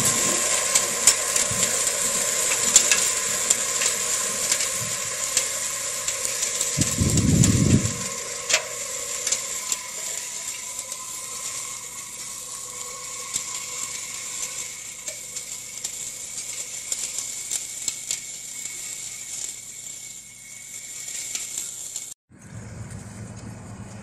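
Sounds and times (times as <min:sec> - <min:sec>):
tractor mower whine: 0:00.0 - 0:24.0.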